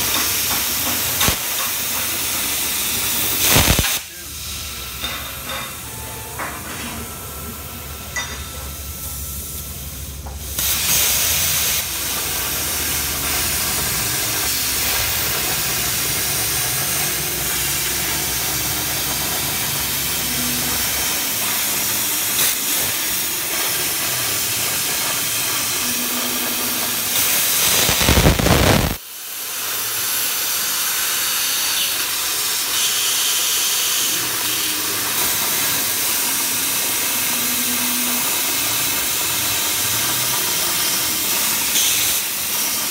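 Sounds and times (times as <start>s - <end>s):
plasma cutter arc hissing: 0.0s - 42.9s.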